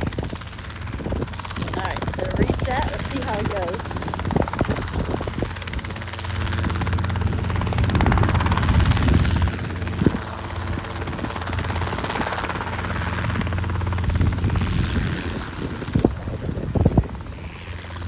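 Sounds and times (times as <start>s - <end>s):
helicopter rotor humming: 0.0s - 18.0s.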